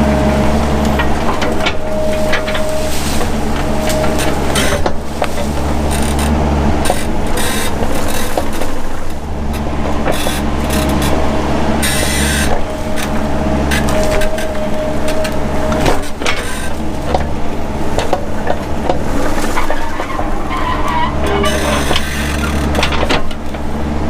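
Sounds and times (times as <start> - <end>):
thin steady whine: 0.0 - 22.9
excavator engine running: 0.0 - 24.0
branches cracking: 0.1 - 23.6.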